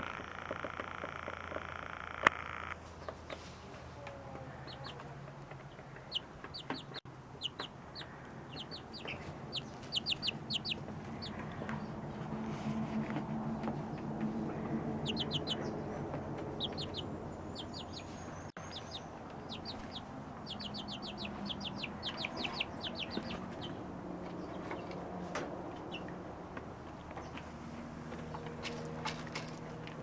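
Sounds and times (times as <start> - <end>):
chicks peeping: 3.0 - 29.6.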